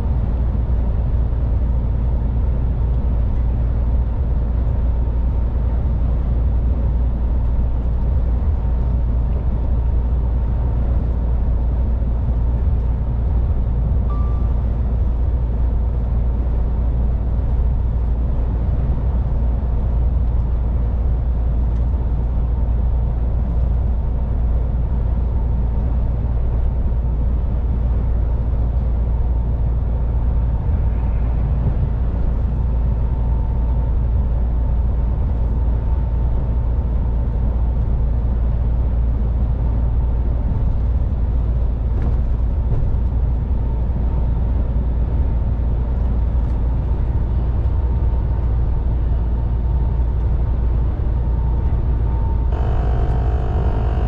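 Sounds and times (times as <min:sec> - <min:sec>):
truck engine and road drone: 0:00.0 - 0:54.0.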